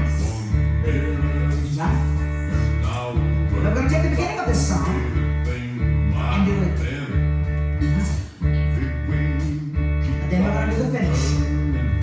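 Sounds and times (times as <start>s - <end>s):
person singing: 0.0s - 7.2s, 7.8s - 12.0s
guitar: 0.0s - 12.0s
repeating bass line: 0.0s - 12.0s.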